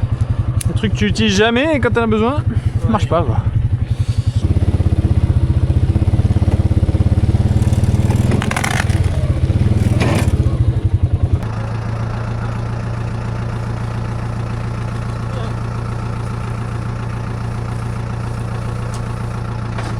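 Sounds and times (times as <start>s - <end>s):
engine running with pulsing beat: 0.0s - 19.9s.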